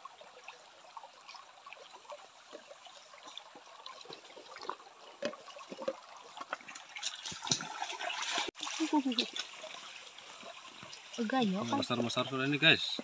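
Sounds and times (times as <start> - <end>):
stream trickling: 0.0 - 13.0.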